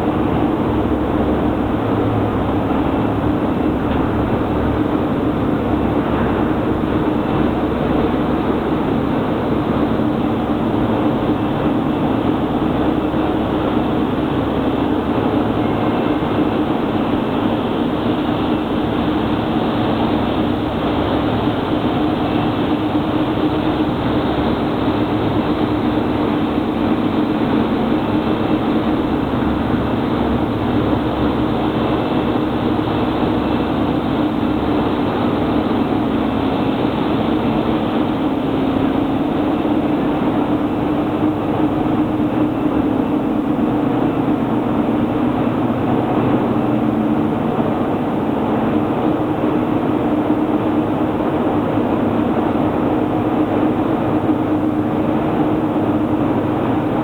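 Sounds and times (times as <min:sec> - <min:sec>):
industrial machinery low hum: 0:00.0 - 0:57.0.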